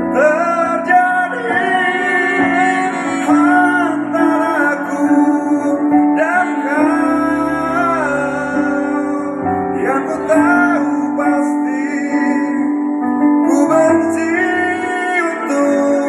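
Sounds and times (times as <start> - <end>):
keyboard accompaniment: 0.0 - 16.0.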